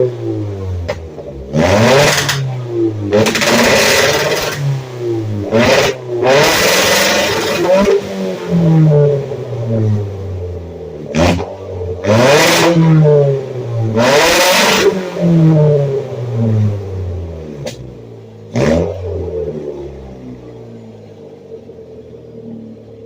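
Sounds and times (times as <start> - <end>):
exhaust cracks: 0.0 - 20.5
car engine revving: 0.0 - 23.0.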